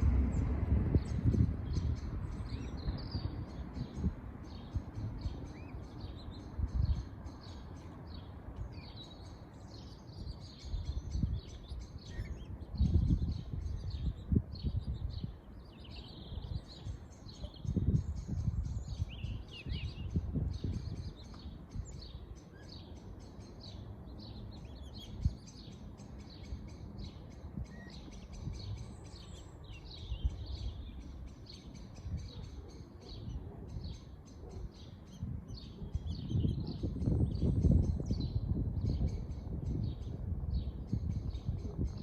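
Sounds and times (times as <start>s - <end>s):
birds chirping: 0.0s - 42.0s.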